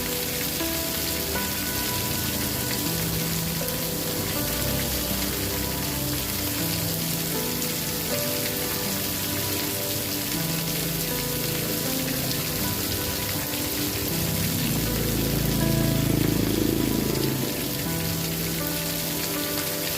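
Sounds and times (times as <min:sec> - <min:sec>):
rain hiss: 0:00.0 - 0:19.9.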